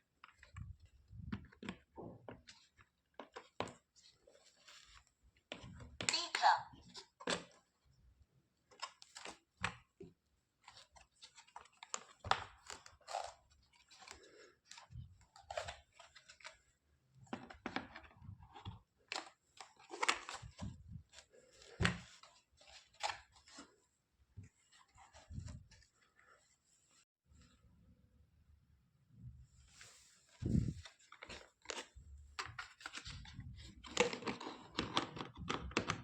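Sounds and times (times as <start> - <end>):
plastic toys being handled: 0.1 - 8.0, 8.6 - 27.5, 29.6 - 36.0.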